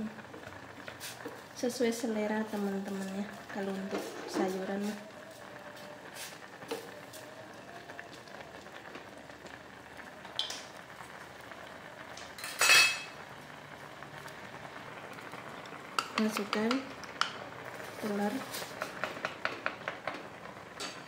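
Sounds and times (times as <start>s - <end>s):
soup bubbling in pot: 0.0s - 21.0s.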